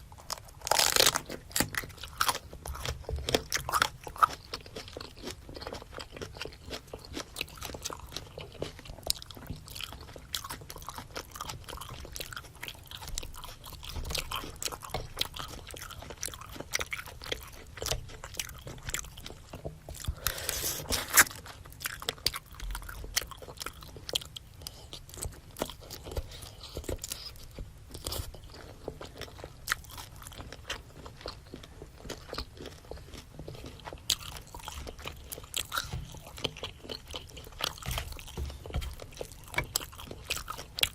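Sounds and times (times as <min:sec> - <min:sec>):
biting and chewing food: 0:00.0 - 0:40.9.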